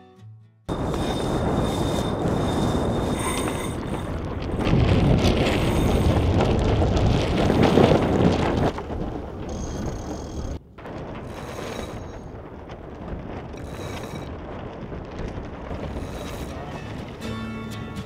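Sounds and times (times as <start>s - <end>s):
wind buffeting microphone: 0.7s - 18.0s.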